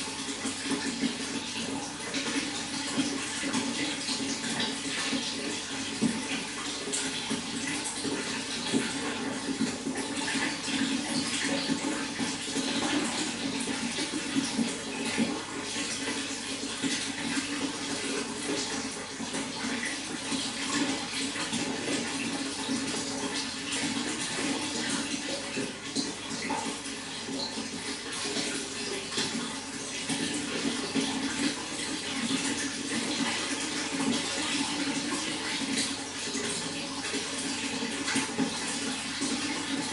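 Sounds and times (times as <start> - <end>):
water splashing and gurgling: 0.0 - 39.9.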